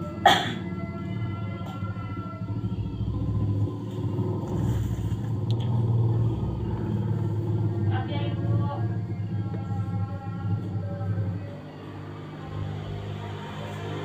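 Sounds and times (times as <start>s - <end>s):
engine running low rumble: 0.0s - 14.0s.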